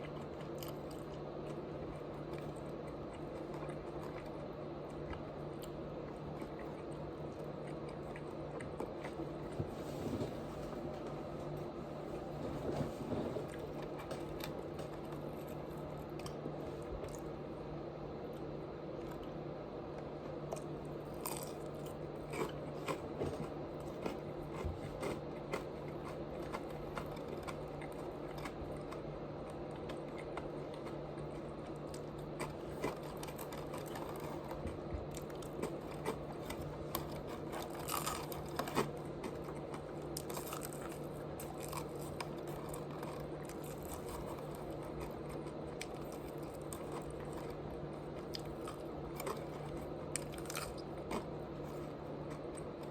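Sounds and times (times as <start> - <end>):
chewing and crunching food: 0.0 - 52.9
steady low hum: 0.0 - 52.9.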